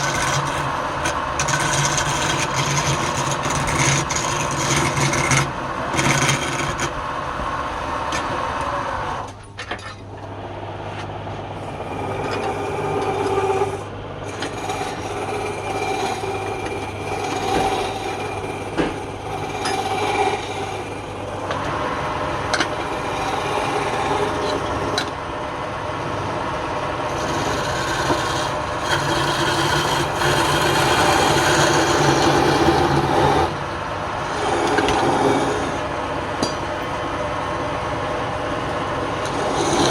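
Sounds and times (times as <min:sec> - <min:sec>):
lathe motor hum: 0:00.0 - 0:09.4, 0:10.1 - 0:39.9
wood lathe tool scraping wood: 0:00.0 - 0:09.4, 0:10.3 - 0:39.9.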